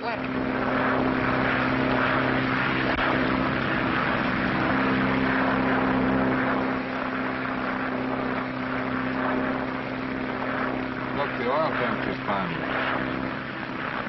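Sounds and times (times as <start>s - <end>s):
propeller airplane engine droning: 0.0s - 14.0s.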